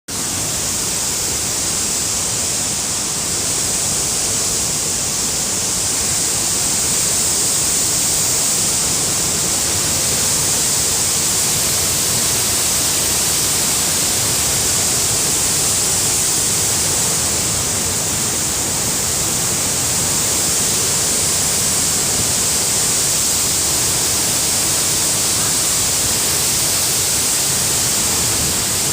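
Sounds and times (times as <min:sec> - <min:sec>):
waterfall rushing: 0:00.1 - 0:28.9.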